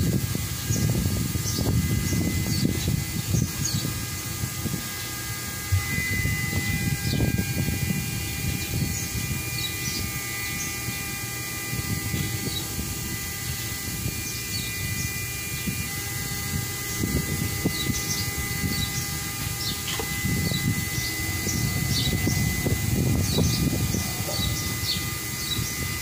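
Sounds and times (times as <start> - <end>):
high hum: 0.0 - 26.0
low machine rumble: 0.0 - 26.0.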